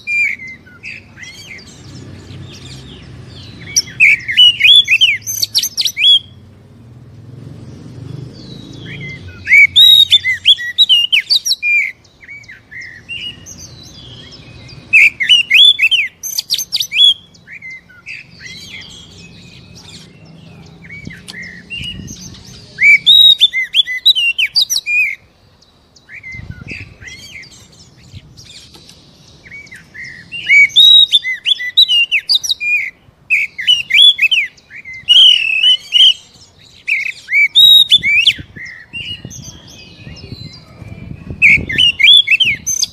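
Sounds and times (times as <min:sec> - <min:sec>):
magpie-robin singing: 0:00.0 - 0:06.5, 0:07.6 - 0:42.9.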